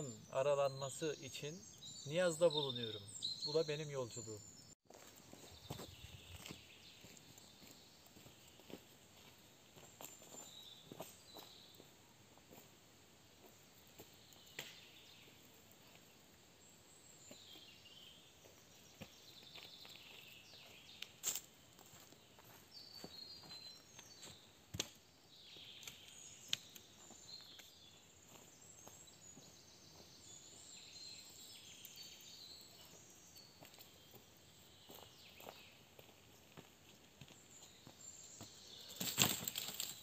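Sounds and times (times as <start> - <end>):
small birds chirping: 0.0 - 12.6, 13.5 - 40.0.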